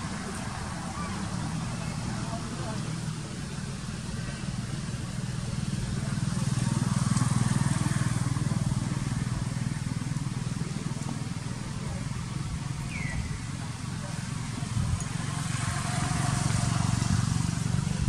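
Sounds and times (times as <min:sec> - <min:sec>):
engine running at low revs: 0:00.0 - 0:18.0.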